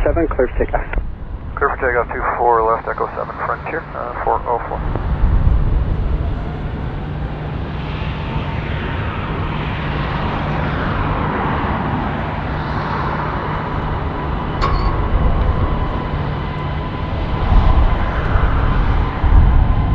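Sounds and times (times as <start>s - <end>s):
jet engines roaring at takeoff: 0.0s - 19.9s.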